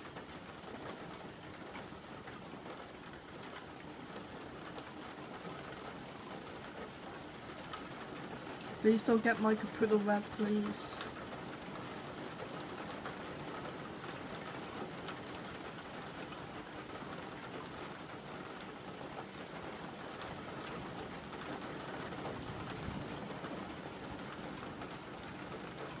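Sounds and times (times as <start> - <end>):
raindrops pattering on surfaces: 0.0 - 26.0.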